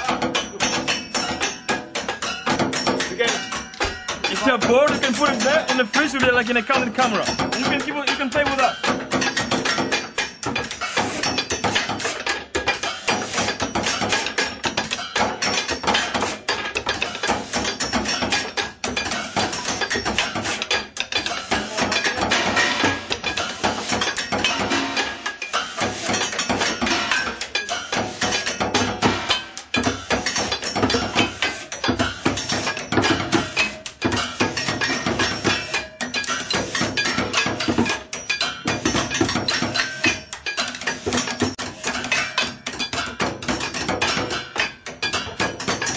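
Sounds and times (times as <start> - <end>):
drumming on kitchen objects: 0.0 - 45.9.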